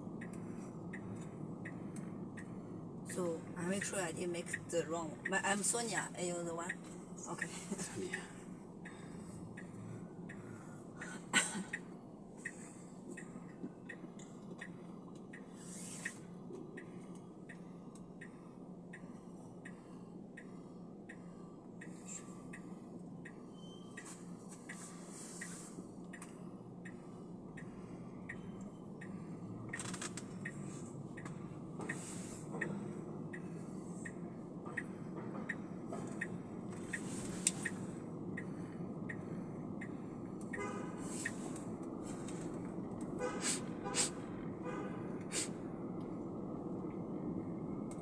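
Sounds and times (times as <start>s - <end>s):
car indicator ticking: 0.0s - 24.8s, 25.4s - 43.2s
low hum of car cabin: 0.0s - 48.0s.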